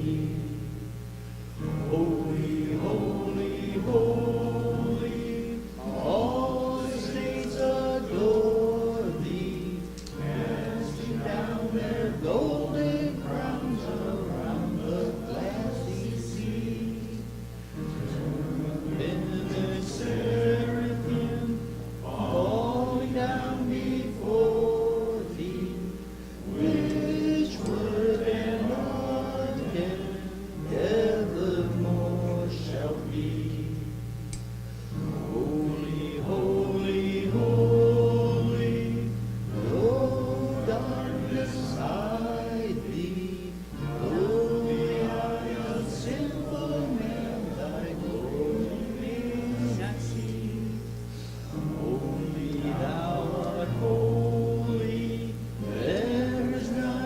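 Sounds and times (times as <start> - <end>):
congregation singing a hymn: 0.0 - 34.2, 34.8 - 57.0.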